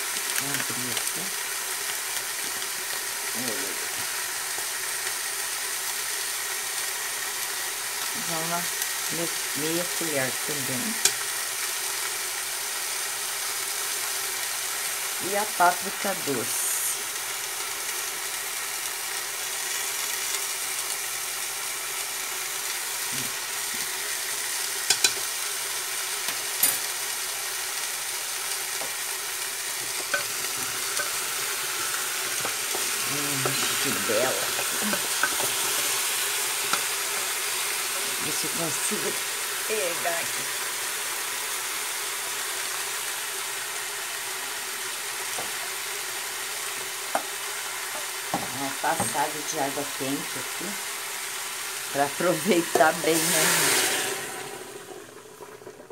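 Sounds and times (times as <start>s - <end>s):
meat sizzling in a pot: 0.0s - 55.9s.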